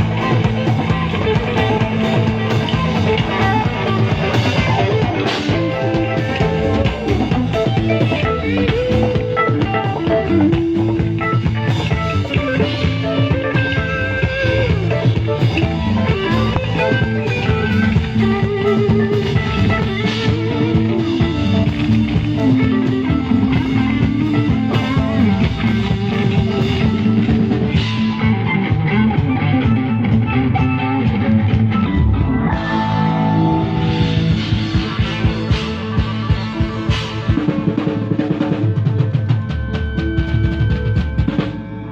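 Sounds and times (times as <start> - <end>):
bass guitar: 0.0 - 41.9
drum kit: 0.0 - 41.9
electric guitar: 0.0 - 41.9.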